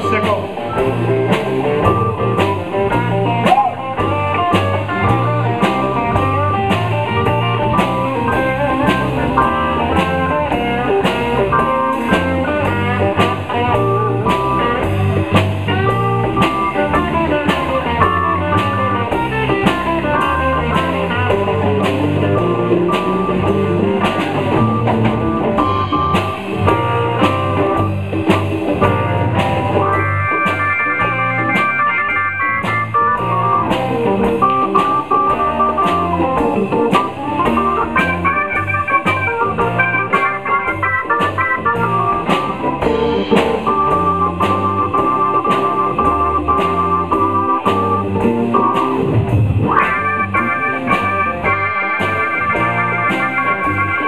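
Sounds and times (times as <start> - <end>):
drum kit beat: 0.0 - 54.0
electric guitar: 0.0 - 54.0
keyboard: 0.0 - 54.0.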